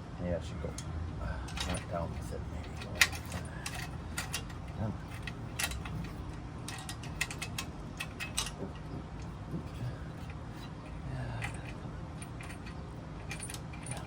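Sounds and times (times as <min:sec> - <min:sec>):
low steady hum: 0:00.0 - 0:14.0
metal parts and tools clinking: 0:01.5 - 0:14.0.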